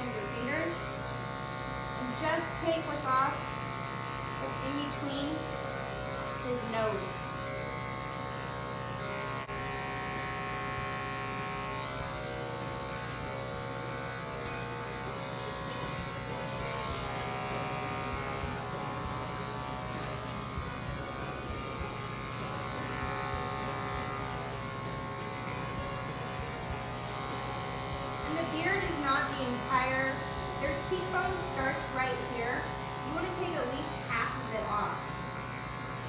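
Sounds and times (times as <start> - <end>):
electric clippers buzzing: 0.0 - 36.0.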